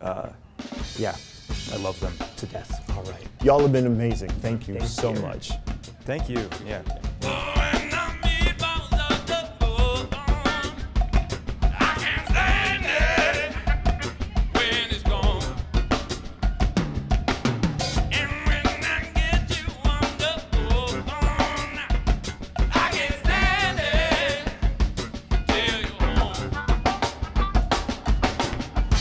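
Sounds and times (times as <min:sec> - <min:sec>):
funk band playing: 0:00.0 - 0:29.0
drum kit kick and snare: 0:00.7 - 0:29.0.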